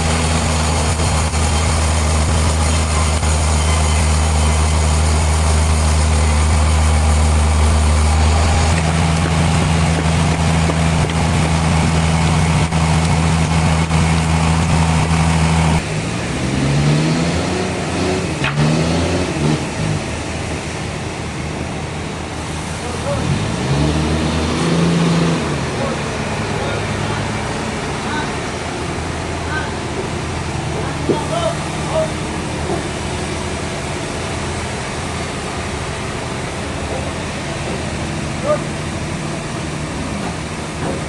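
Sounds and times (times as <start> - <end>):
heavy machinery humming: 0.0 - 41.0.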